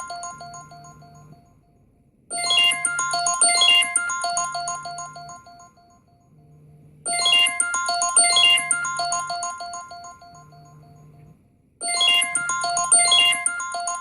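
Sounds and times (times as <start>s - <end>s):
chiming electronic ringtone: 0.0s - 14.0s.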